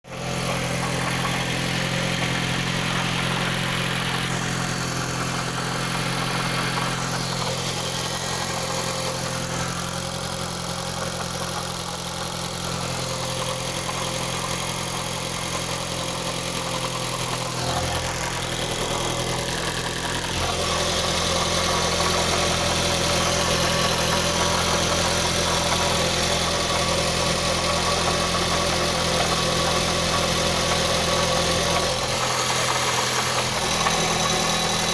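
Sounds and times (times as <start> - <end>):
engine idling with knock: 0.1 - 34.9.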